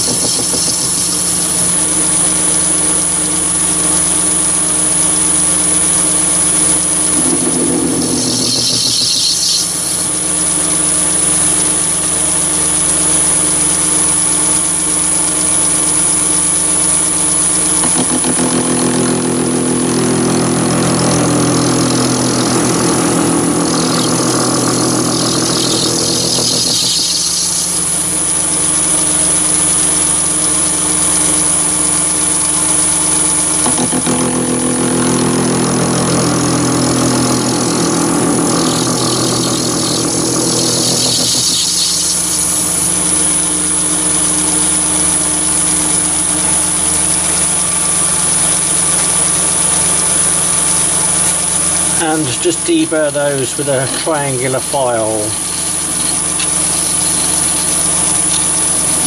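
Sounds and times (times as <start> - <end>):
cutting tool scraping squeal: 0.0 - 11.8, 15.3 - 59.0
lathe running with high whine: 0.0 - 59.0.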